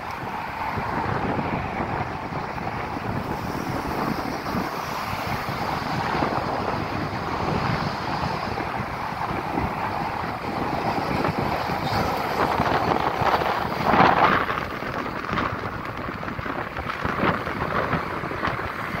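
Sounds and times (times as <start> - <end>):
car passing close: 0.0 - 19.0
steady road traffic: 0.0 - 19.0
wind buffeting microphone: 0.0 - 19.0.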